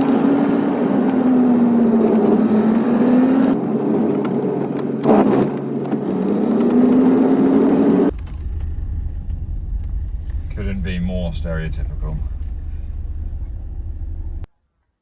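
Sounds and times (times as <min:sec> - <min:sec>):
vehicle engine driving: 0:00.0 - 0:14.5.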